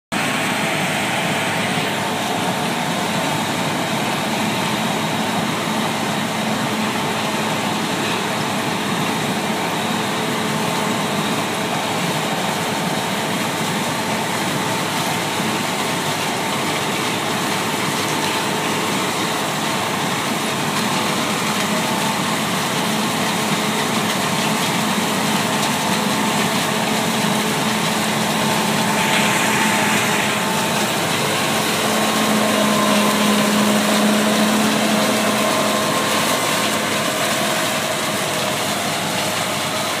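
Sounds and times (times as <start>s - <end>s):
combine harvester droning: 0.1s - 40.0s.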